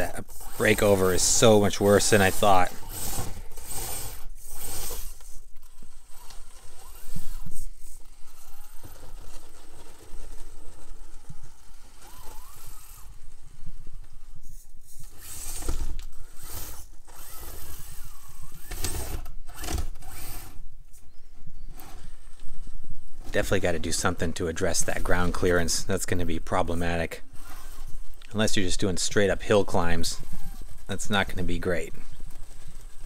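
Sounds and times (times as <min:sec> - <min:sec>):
small electric motor whirring: 0:00.0 - 0:33.0
tyres and chassis scraping on rock: 0:00.0 - 0:33.0.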